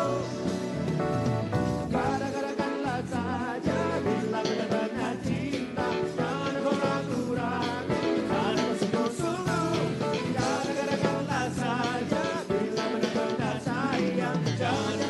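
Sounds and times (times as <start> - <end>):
person singing: 0.0 - 1.0, 1.9 - 15.0
live pop band music: 0.0 - 15.0.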